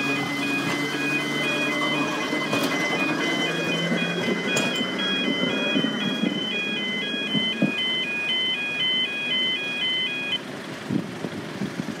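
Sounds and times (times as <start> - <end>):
crossing alarm two-tone: 0.0 - 10.4.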